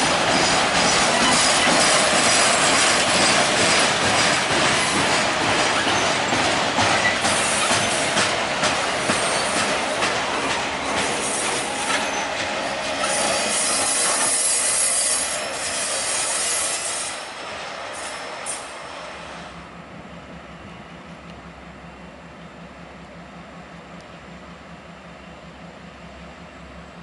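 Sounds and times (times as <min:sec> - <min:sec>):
train wheels rolling on rail: 0:00.0 - 0:27.0.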